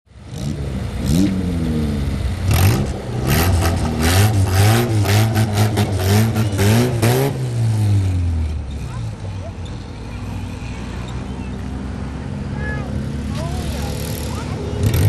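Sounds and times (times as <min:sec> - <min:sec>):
car engines revving: 0:00.1 - 0:15.0.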